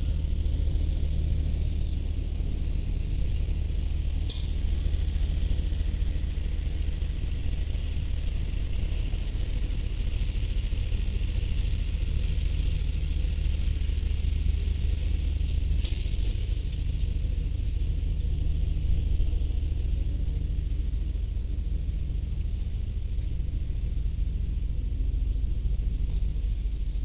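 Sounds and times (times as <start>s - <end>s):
low engine rumble: 0.0s - 27.0s.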